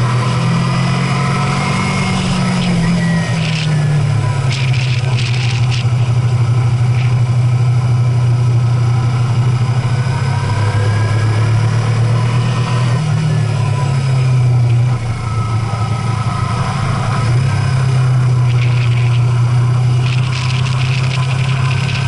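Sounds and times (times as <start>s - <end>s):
vehicle engine driving: 0.0s - 22.0s.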